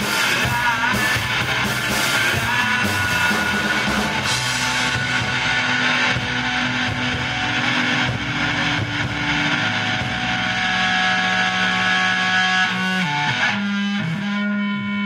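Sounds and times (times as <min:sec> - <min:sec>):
rock band playing distorted guitars: 0:00.0 - 0:15.0.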